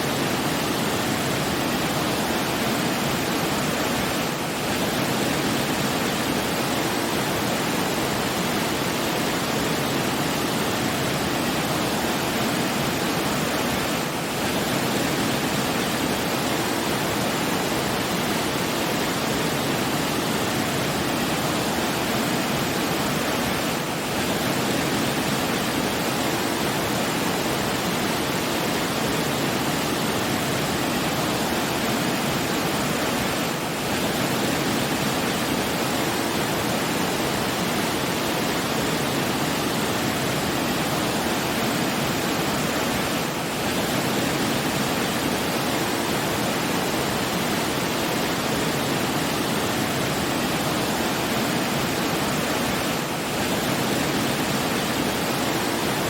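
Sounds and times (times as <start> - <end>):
rushing water roar: 0.0 - 56.0.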